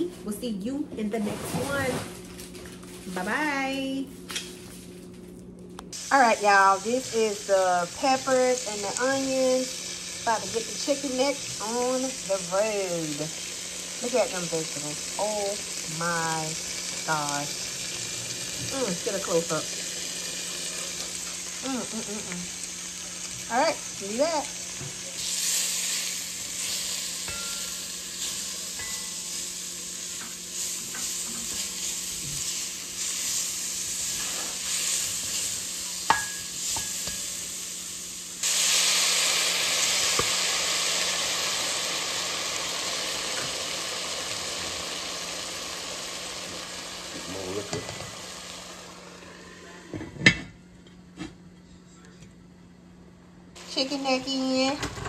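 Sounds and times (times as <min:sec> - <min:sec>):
vegetables sizzling in a pan: 0:06.0 - 0:50.1, 0:53.6 - 0:55.0.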